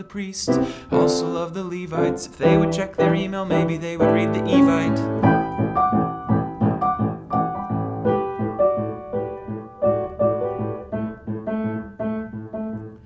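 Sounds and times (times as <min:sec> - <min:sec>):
solo piano: 0:00.0 - 0:13.0.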